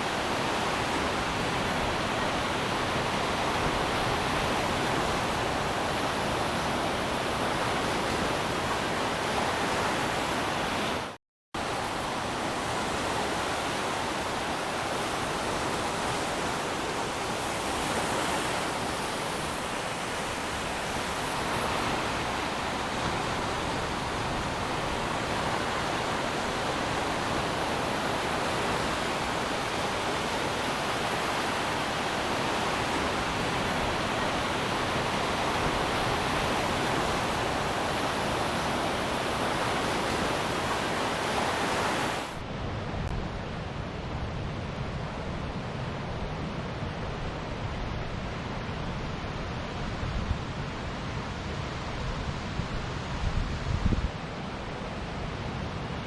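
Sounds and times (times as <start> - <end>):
sea surf washing in: 0.0 - 56.0.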